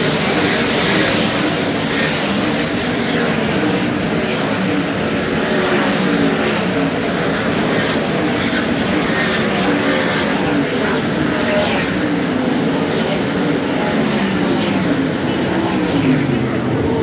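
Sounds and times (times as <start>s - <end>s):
sprint car engines racing: 0.0s - 17.0s.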